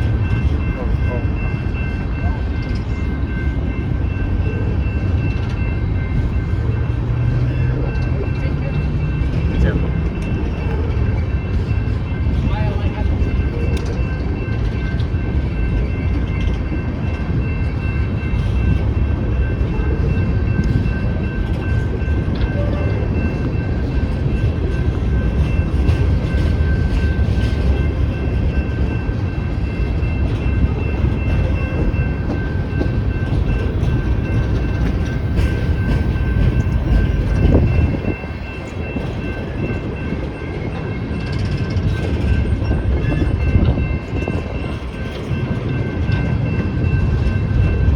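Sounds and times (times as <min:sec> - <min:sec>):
steady high ringing tone: 0:00.0 - 0:47.9
train wheels rumbling on rails: 0:00.0 - 0:47.9.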